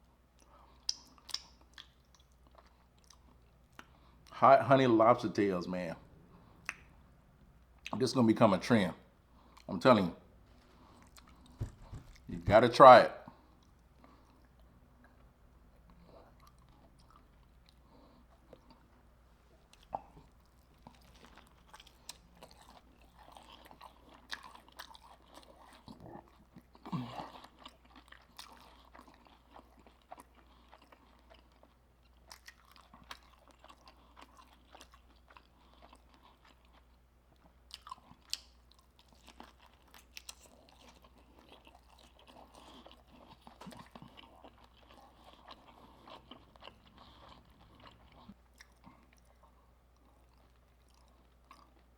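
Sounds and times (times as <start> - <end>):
crunchy chewing of fried food: 0.0 - 51.9.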